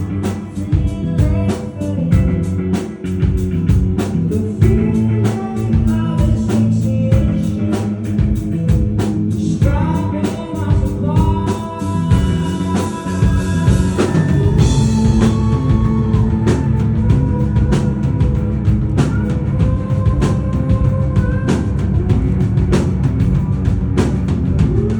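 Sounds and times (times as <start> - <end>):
person singing: 0.0 - 3.3, 4.0 - 8.6, 9.4 - 23.0, 24.6 - 24.9
live rock band playing: 0.0 - 24.9.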